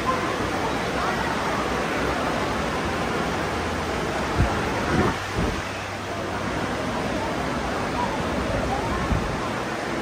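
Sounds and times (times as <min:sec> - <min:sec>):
air buffeting microphone: 0:00.0 - 0:10.0.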